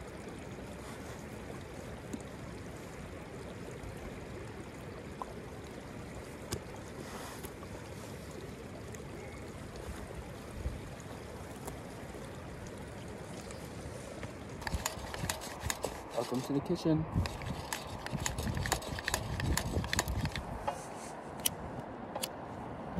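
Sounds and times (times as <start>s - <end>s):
rushing outdoor ambience: 0.0s - 22.9s.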